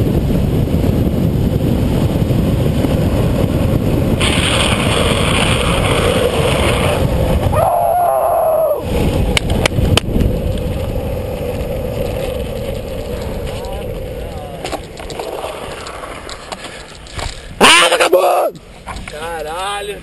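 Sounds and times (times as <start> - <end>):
wind buffeting microphone: 0.0 - 17.7
skateboard wheels rumbling on asphalt: 0.0 - 20.0.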